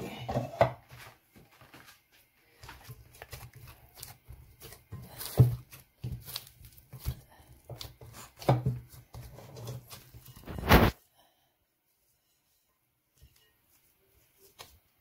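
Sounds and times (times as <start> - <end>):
hands kneading dough: 0.0 - 11.0, 11.8 - 15.0.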